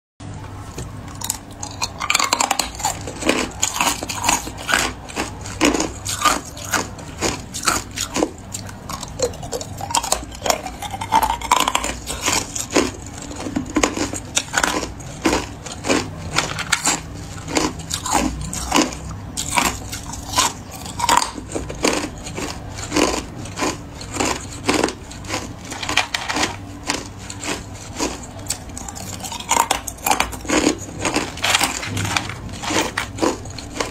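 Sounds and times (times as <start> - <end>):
ice cubes being chewed: 1.0 - 33.9.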